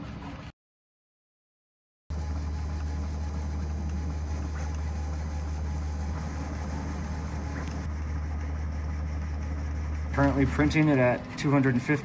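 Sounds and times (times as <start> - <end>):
printer motors and fans humming: 2.1 - 12.0.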